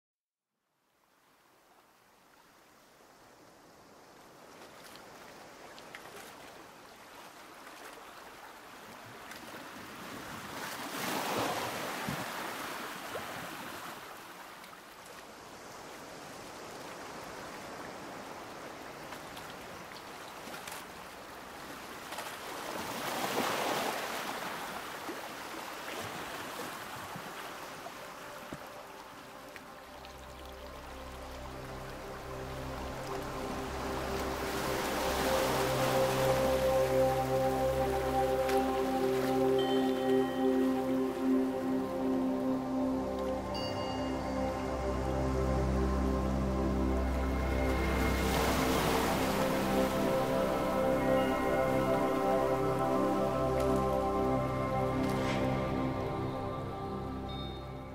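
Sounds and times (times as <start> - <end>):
ocean surf washing: 6.8 - 14.5, 15.5 - 57.9.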